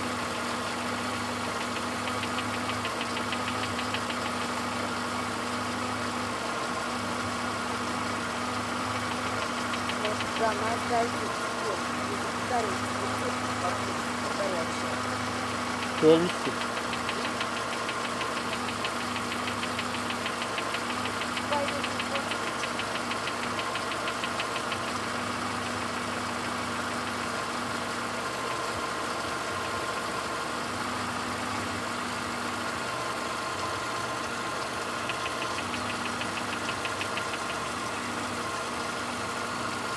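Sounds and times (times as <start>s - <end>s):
car engine idling: 0.0s - 39.9s
rapid light engine knock: 0.0s - 39.9s.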